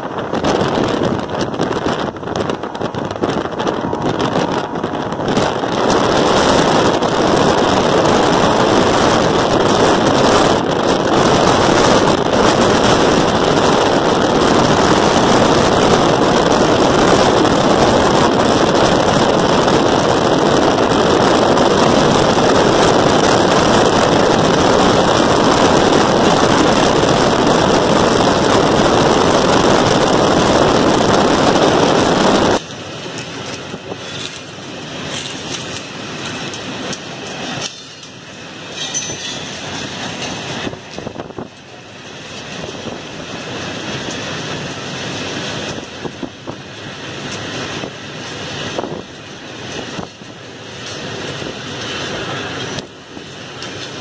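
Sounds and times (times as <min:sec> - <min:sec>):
wind rushing: 0:00.0 - 0:38.8, 0:39.4 - 0:54.0
car road noise: 0:00.0 - 0:54.0.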